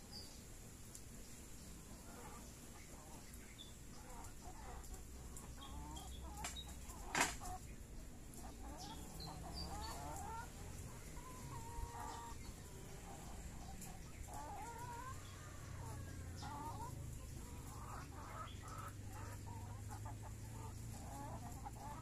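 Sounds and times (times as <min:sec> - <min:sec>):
chickens clucking: 0:01.6 - 0:22.0.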